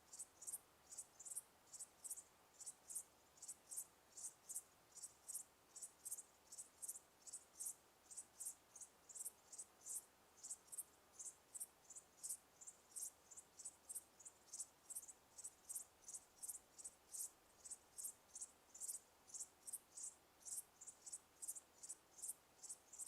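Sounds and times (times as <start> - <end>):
faint background hiss: 0.0 - 23.0
insects chirping: 0.1 - 23.0.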